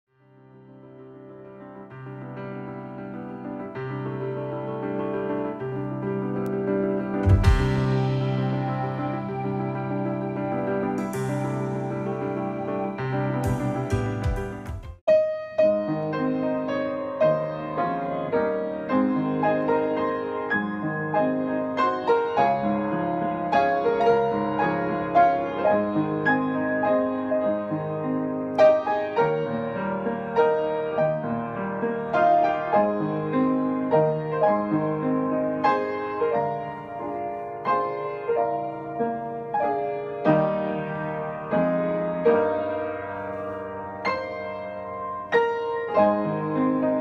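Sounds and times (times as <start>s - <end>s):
piano music: 0.1s - 47.0s.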